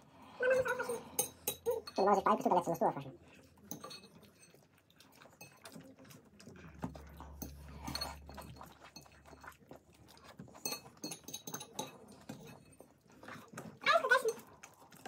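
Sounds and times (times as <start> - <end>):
dishes and cutlery clinking: 0.4 - 14.8
chewing and mouth smacks: 0.6 - 15.0.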